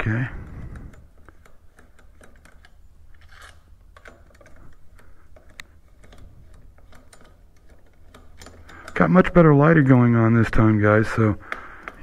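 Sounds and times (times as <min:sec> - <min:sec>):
hand ratchet clicking: 0:00.0 - 0:12.0.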